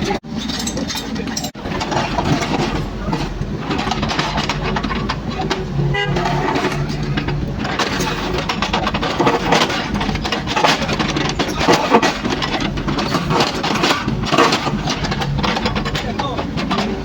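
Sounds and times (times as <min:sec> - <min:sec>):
bucket scraping through rubble: 0:00.0 - 0:17.0
excavator diesel engine running: 0:00.0 - 0:17.0.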